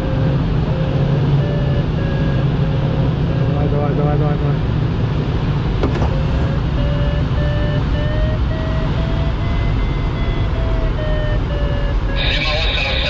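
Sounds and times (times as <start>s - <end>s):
variometer beeping: 0.0s - 4.4s, 5.8s - 13.0s.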